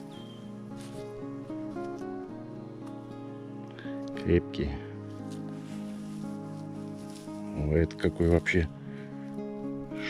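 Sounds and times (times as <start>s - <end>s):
plucked acoustic guitar melody: 0.0s - 10.0s.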